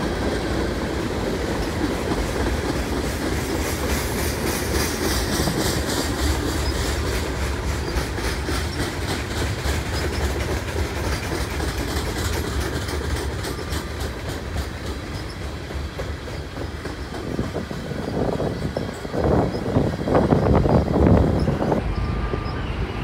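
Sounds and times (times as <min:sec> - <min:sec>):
steel wheels rumbling on rails: 0:00.0 - 0:23.0
wheels clicking over rail joints: 0:00.0 - 0:23.0.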